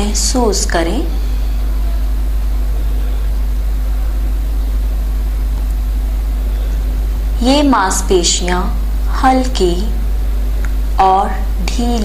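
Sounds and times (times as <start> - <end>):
deep hum: 0.0 - 12.0.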